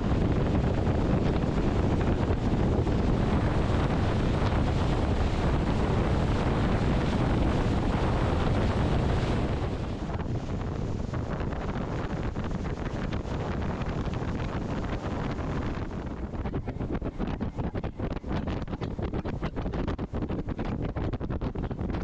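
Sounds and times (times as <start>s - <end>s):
water rushing along hull: 0.0s - 20.2s
wind buffeting microphone: 0.0s - 22.0s.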